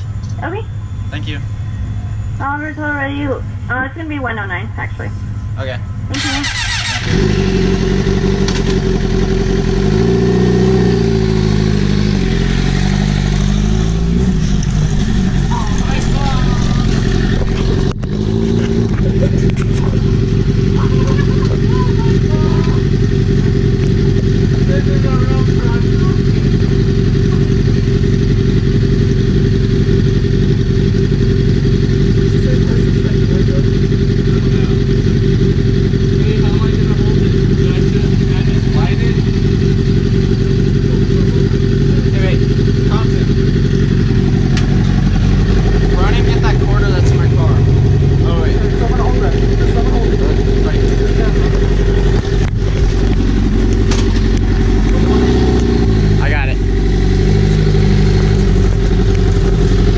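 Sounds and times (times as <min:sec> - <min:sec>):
loud motorcycle engine: 0:00.0 - 0:59.9.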